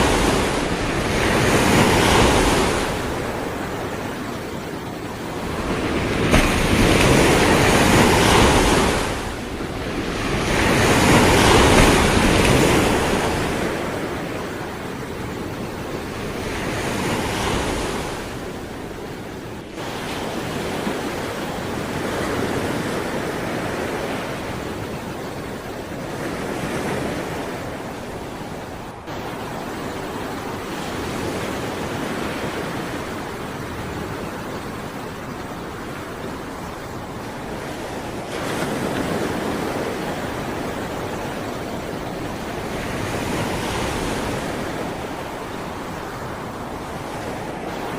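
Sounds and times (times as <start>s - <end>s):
sea waves breaking: 0.0s - 47.9s.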